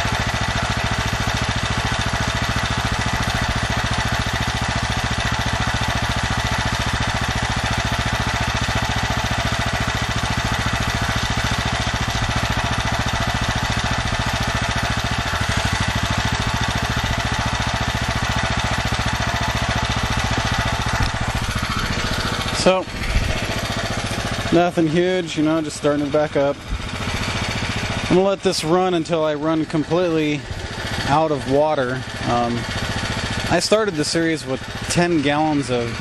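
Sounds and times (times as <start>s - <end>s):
generator engine running: 0.0s - 36.0s.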